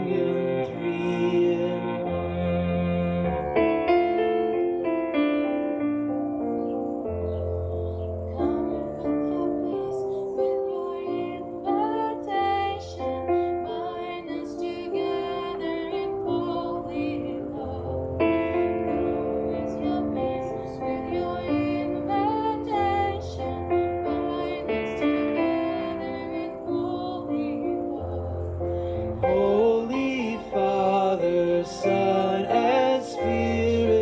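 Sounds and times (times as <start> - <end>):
keyboard chords: 0.0 - 34.0
slow hymn music: 0.0 - 34.0.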